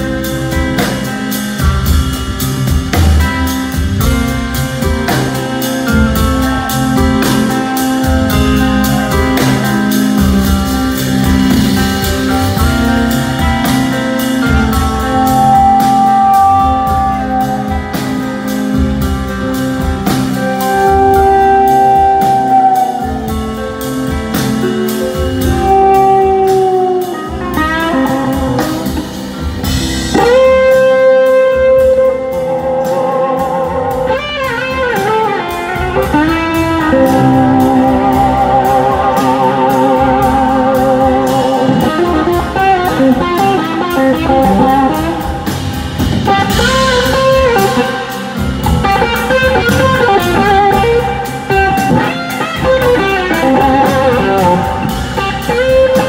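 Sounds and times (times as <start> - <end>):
electric guitar sliding notes: 0.0 - 56.0
live blues-rock band: 0.0 - 56.0.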